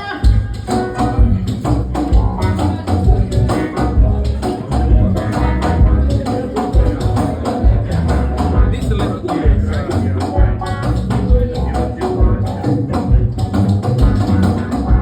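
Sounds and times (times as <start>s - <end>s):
band music with drums and bass: 0.0s - 15.0s.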